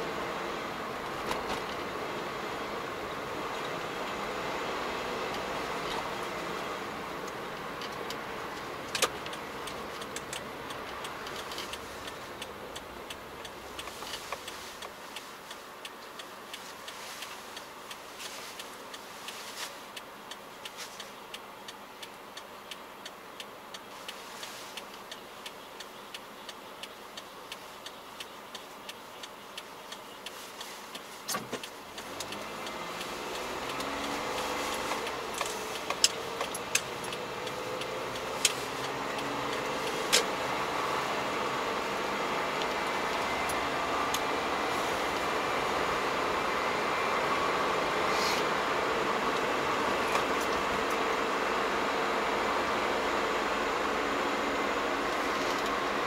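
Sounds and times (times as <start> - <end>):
car interior engine and road noise: 0.0 - 56.0
turn signal ticking: 0.0 - 56.0.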